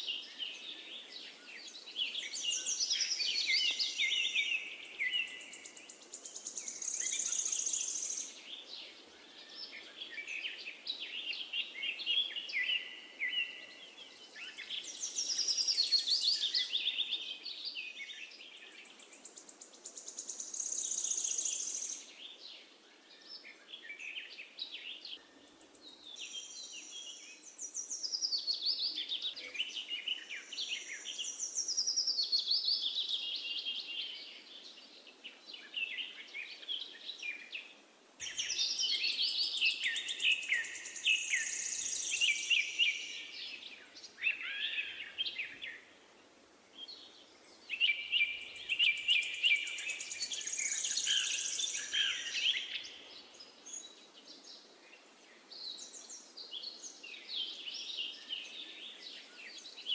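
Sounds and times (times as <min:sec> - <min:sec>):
birds singing trills and chirps: 0:00.0 - 0:59.9
faint steady hiss: 0:00.0 - 0:59.9.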